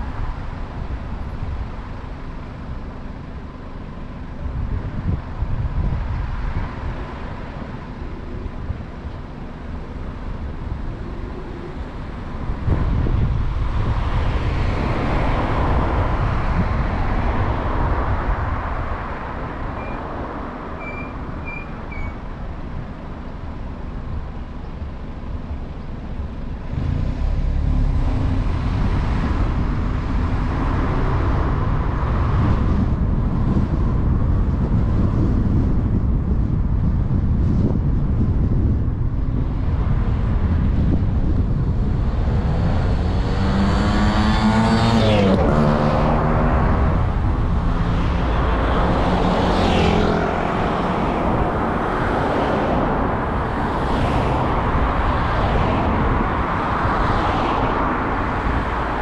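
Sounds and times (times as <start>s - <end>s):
rumble of passing traffic: 0.0s - 59.0s.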